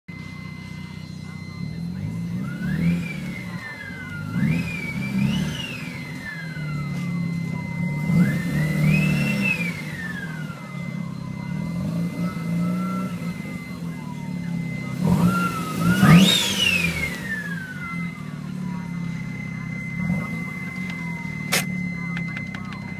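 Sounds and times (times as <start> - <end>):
faint steady high tone: 0.1 - 22.9
rotary engine revving: 0.1 - 22.9
turbo whine: 0.1 - 22.9.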